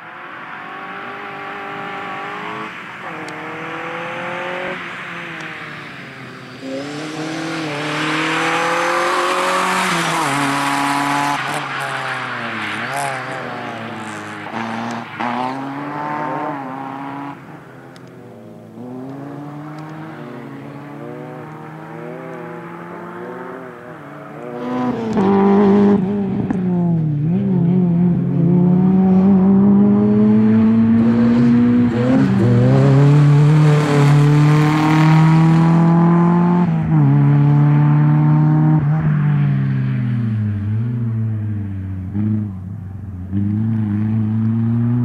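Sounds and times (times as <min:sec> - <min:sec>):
rally car engine revving: 0:00.2 - 0:39.2, 0:40.5 - 0:45.0.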